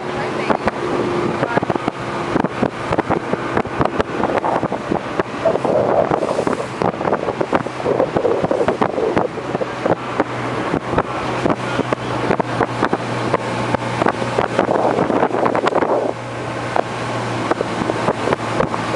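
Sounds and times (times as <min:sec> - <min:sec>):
motorboat engine running: 0:00.0 - 0:18.9
water rushing: 0:00.0 - 0:18.9
wind buffeting microphone: 0:00.0 - 0:18.9
hull knocking on waves: 0:00.4 - 0:16.0.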